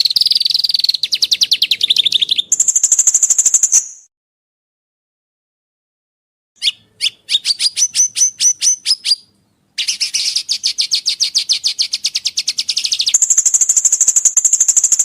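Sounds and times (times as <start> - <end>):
buzzy bird trill: 0.0 - 4.1, 6.6 - 15.0
songbird whistled notes: 0.0 - 4.1, 6.6 - 15.0.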